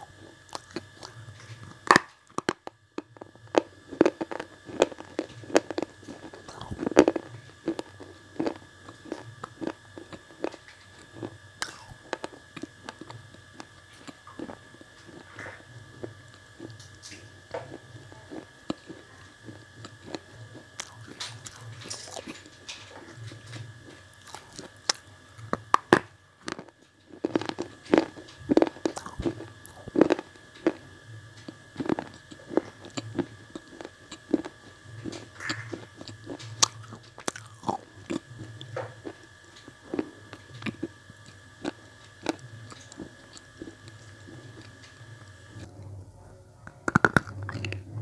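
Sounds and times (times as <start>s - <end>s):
crunching of hard pieces chewed: 0.0s - 45.7s, 46.6s - 47.8s
faint steady high whine: 0.0s - 48.0s.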